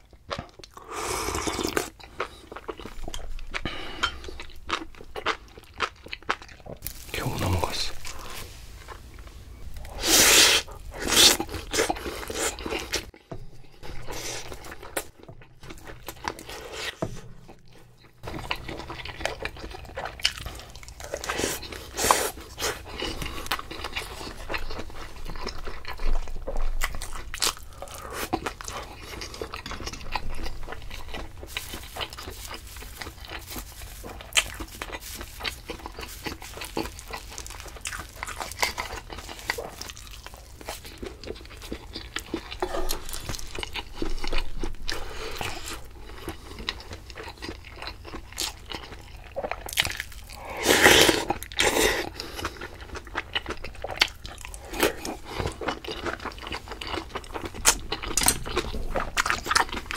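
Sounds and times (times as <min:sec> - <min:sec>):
person chewing and biting food: 0:00.0 - 0:09.1, 0:09.7 - 0:59.9.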